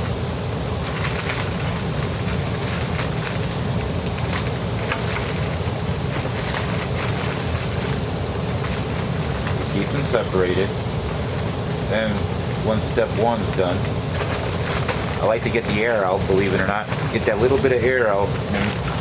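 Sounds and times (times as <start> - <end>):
heater humming: 0.0 - 19.0
plastic bags rustling: 0.6 - 19.0.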